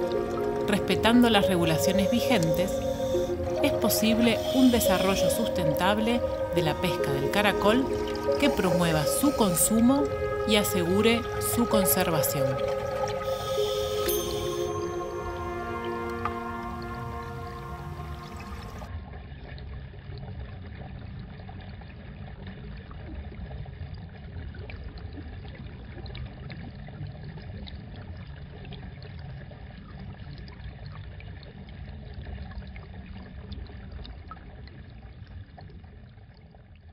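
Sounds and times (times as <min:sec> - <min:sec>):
muffled water rush: 0:00.0 - 0:36.9.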